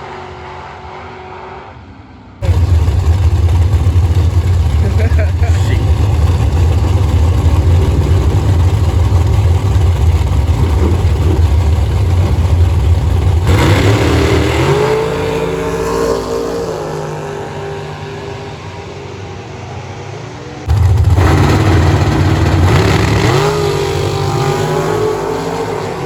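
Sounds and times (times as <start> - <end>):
car engine revving: 2.4 - 18.8, 20.6 - 26.0.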